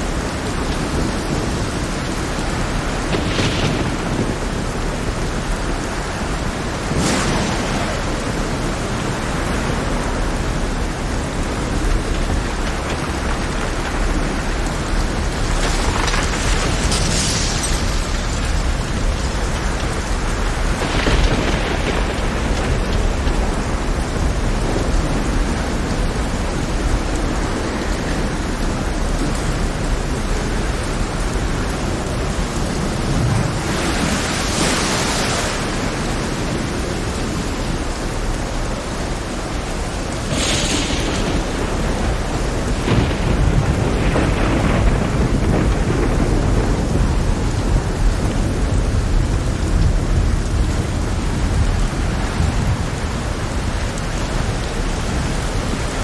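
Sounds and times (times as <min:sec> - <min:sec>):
heavy rain hiss: 0:00.0 - 0:56.0
rough sea rumble: 0:00.0 - 0:56.0.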